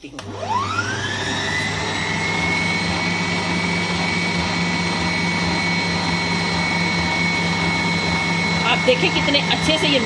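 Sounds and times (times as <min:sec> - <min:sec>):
stand mixer motor whining: 0:00.2 - 0:10.0.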